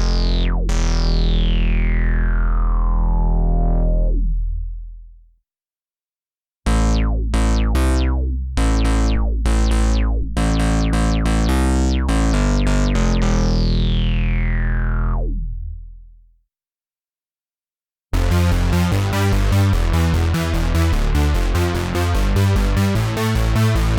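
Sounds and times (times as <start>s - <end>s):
synthesizer bass notes: 0.0s - 5.0s, 6.7s - 16.1s, 18.2s - 23.9s.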